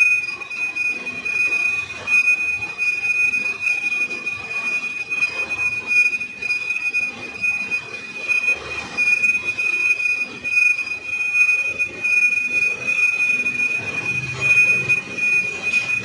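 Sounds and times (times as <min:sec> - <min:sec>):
lathe tool squealing on metal: 0:00.0 - 0:16.0.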